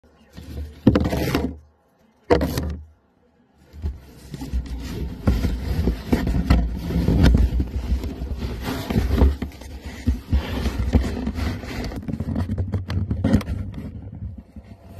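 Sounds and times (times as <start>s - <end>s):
cardboard box scraping and rustling: 0.2s - 1.6s, 3.8s - 14.9s.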